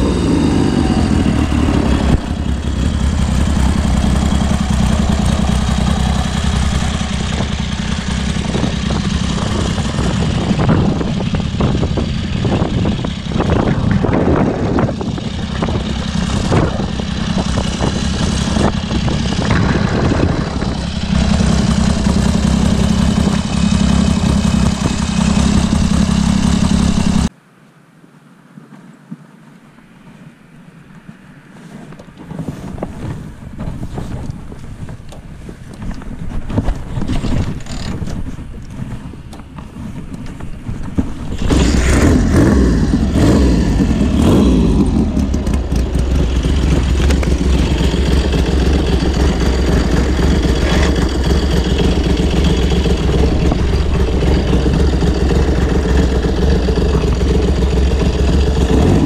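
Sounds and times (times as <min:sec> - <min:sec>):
motorcycle engine running: 0:00.0 - 0:27.3, 0:32.6 - 0:59.0.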